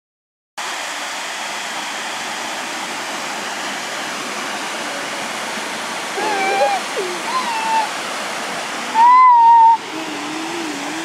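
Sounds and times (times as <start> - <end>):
waterfall rushing: 0.6 - 11.0.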